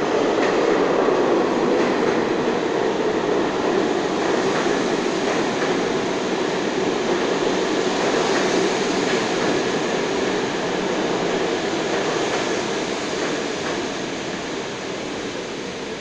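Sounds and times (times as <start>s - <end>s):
subway train passing: 0.0s - 16.0s.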